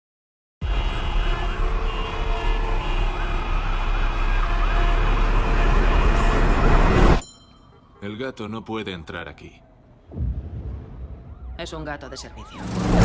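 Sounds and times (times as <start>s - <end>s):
city street traffic: 0.6s - 10.2s, 10.8s - 13.0s
emergency vehicle siren wailing: 1.0s - 13.0s.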